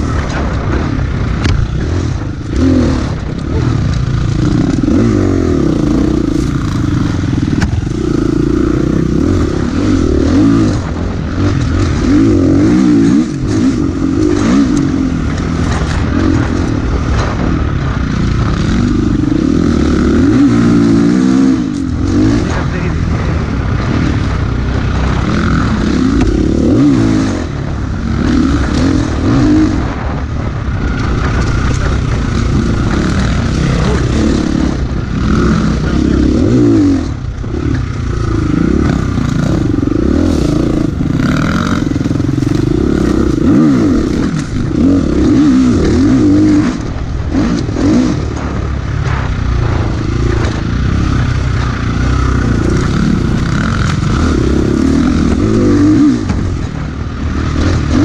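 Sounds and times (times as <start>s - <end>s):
bike rattles: 0.0s - 58.0s
motorcycle engine revving: 0.0s - 58.0s
rushing noise: 0.0s - 58.0s.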